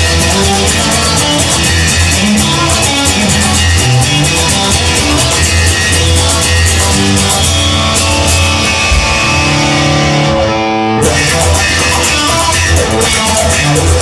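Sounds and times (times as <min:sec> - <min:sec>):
rock music with guitar and drums: 0:00.0 - 0:14.0.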